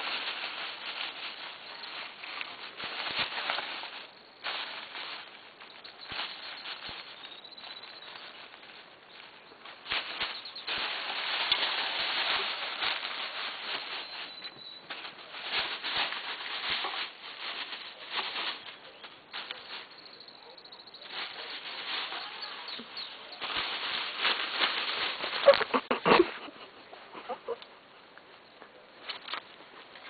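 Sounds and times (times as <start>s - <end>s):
plastic bags crinkling: 0.0s - 26.1s.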